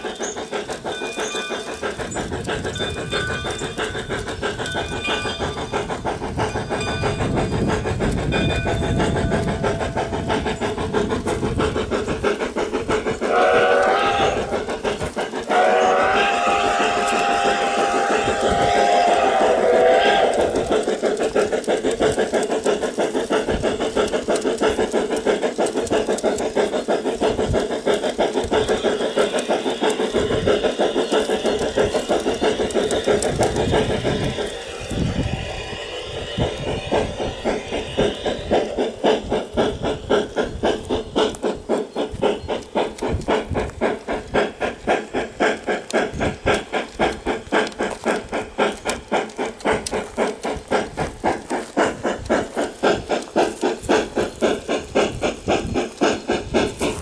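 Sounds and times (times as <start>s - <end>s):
model steam locomotive chuffs: 0.0s - 57.0s.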